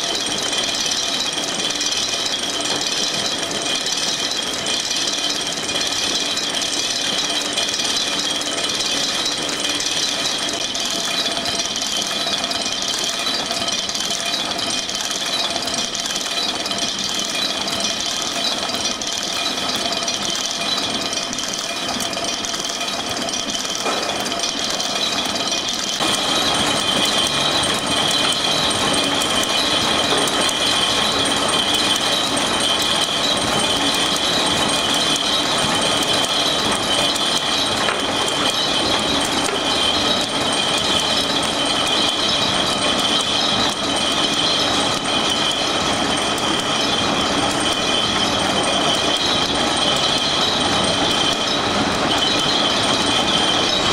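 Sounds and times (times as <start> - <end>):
high steady machine whine: 0.0 - 53.9
machine mechanical rattle: 0.0 - 53.9.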